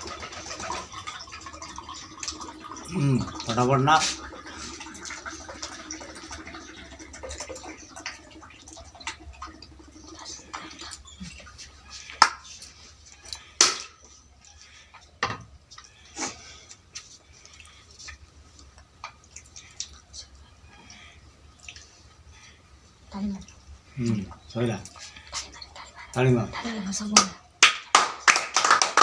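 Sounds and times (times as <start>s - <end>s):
food crackling: 0.0s - 26.3s.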